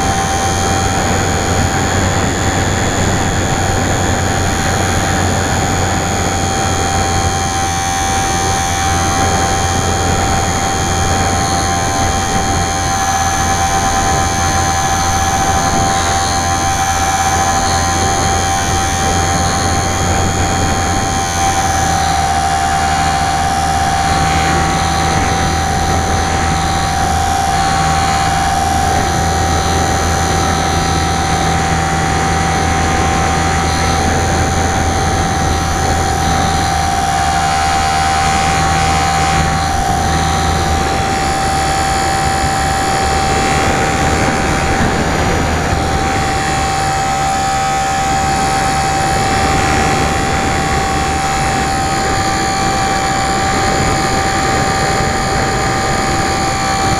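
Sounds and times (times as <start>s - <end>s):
electric motor and propeller whine: 0.0s - 56.9s
low hum: 0.0s - 56.9s
wind rush: 0.0s - 56.9s.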